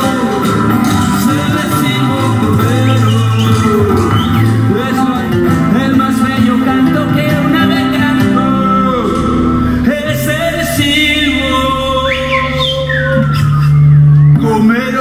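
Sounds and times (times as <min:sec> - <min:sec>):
plucked string instrument: 0:00.0 - 0:14.9
man singing: 0:00.0 - 0:15.0
strummed acoustic guitar: 0:00.0 - 0:15.0.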